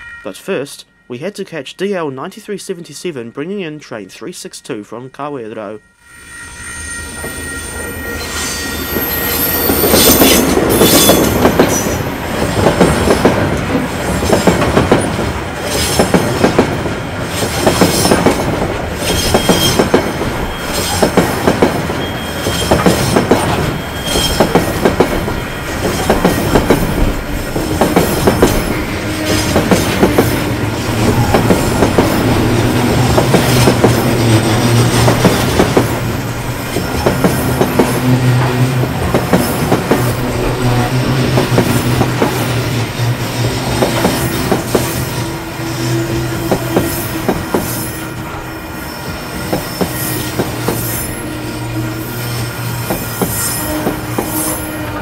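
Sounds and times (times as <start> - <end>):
diesel locomotive passing: 0.0 - 55.0
wagon wheels clacking on rails: 8.7 - 48.4, 49.1 - 51.7, 52.3 - 54.8.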